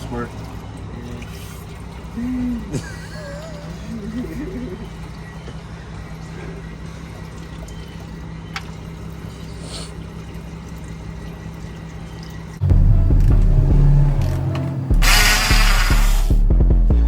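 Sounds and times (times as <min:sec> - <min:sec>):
coolant trickling and pouring: 0:00.0 - 0:14.4, 0:15.0 - 0:16.5.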